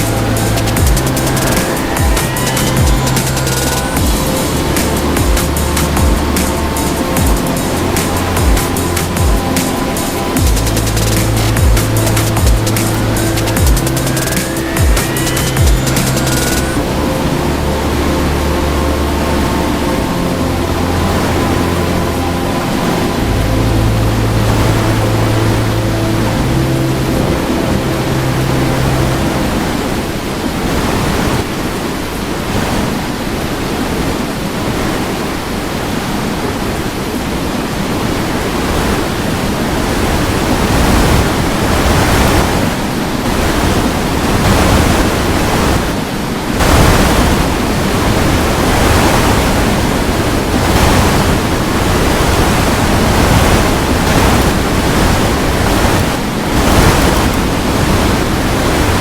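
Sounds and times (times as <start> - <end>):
strong wind on microphone: 0.0 - 59.0.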